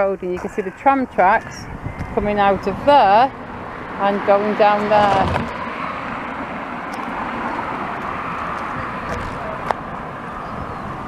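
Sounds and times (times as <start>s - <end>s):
passing cars: 0.4s - 11.0s.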